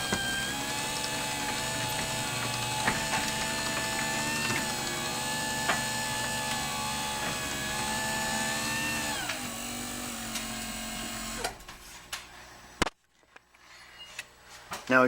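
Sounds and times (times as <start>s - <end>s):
garage door opener motor whining: 0.0s - 12.8s.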